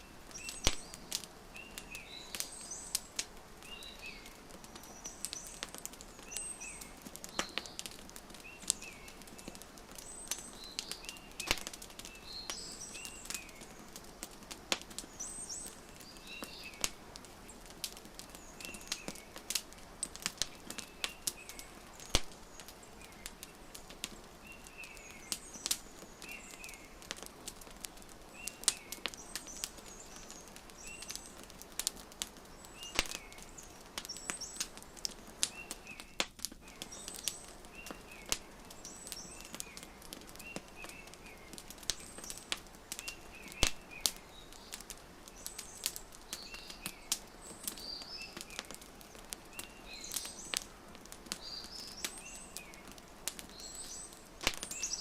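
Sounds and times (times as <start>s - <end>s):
small birds chirping: 0.0s - 55.0s
wood fire crackling and popping: 0.0s - 55.0s.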